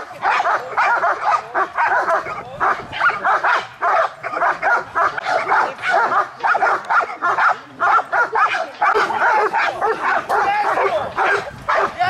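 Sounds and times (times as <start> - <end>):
dog barking: 0.2 - 12.0.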